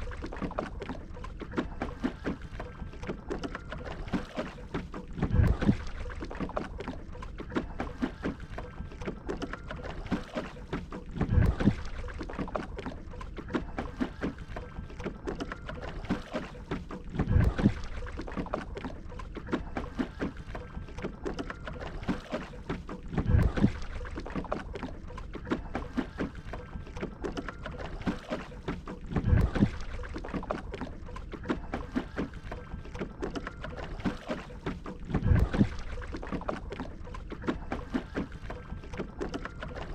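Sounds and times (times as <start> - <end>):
paddle stroke through water: 0.0 - 39.9
water lapping against wooden hull: 0.0 - 39.9.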